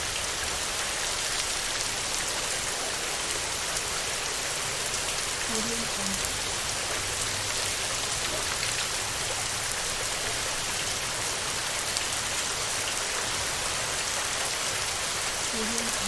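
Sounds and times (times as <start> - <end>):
heavy rain on a metal roof: 0.0 - 16.0.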